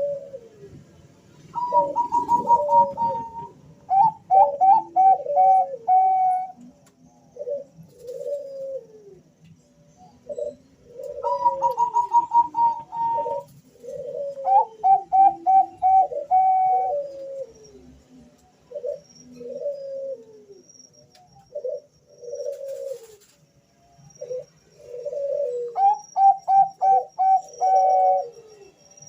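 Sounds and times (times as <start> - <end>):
doves cooing: 0.0 - 0.9, 1.5 - 9.4, 10.1 - 20.7, 21.4 - 23.4, 24.1 - 29.0.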